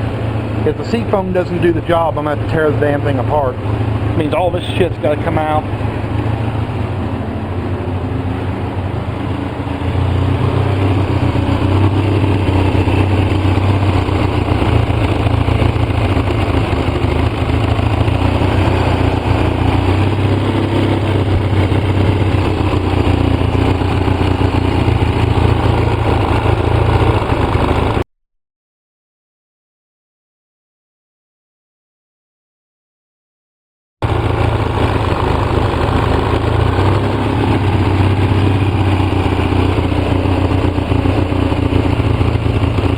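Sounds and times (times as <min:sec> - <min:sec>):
atv engine rough idle: 0:00.0 - 0:28.0, 0:34.0 - 0:42.9.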